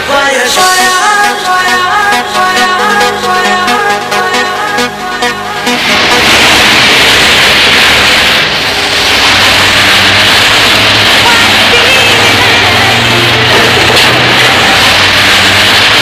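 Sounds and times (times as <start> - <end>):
electronic dance music: 0.0 - 7.8, 10.8 - 16.0
steady rushing noise: 0.0 - 16.0.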